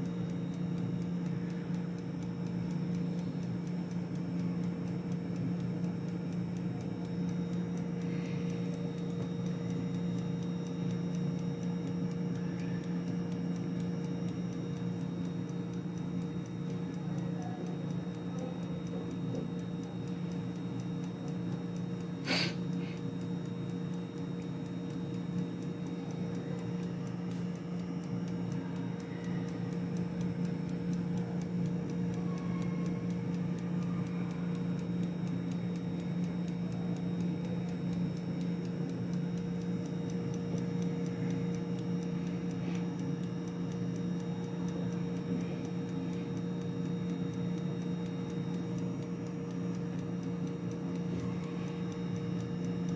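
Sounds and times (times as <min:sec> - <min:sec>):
air fryer fan humming: 0:00.0 - 0:52.9
clockwork timer ticking: 0:00.0 - 0:52.9.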